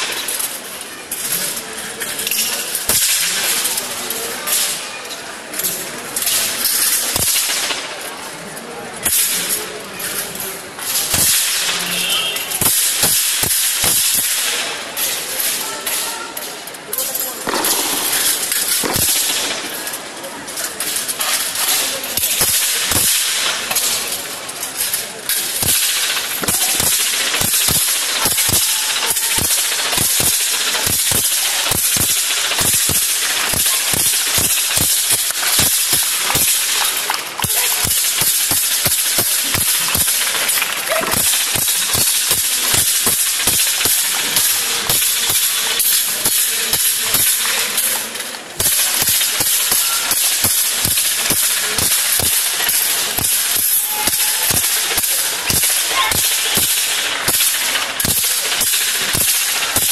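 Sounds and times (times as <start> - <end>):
swords clashing on metal shields: 0.0 - 8.0, 9.0 - 59.9.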